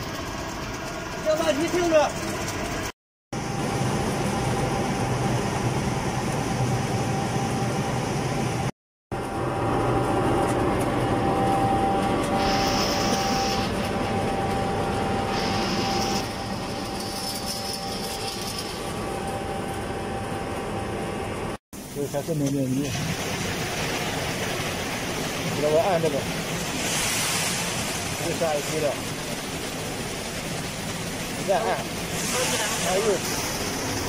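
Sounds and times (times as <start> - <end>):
pellet mill machinery droning: 0.0 - 34.0.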